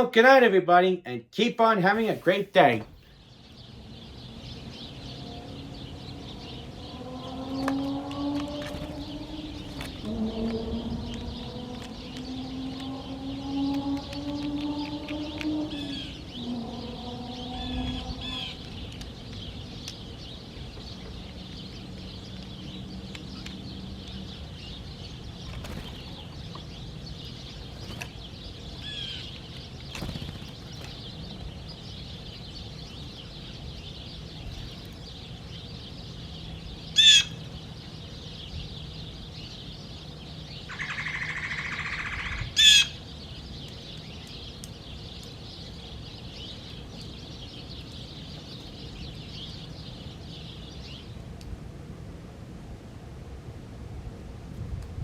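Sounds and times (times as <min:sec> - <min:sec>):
loud bird calls: 0:00.0 - 0:51.1
high chirping birds: 0:00.0 - 0:51.2.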